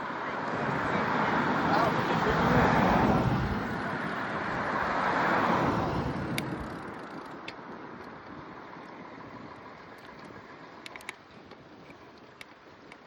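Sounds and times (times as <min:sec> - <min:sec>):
passing motor vehicle: 0:00.0 - 0:12.4.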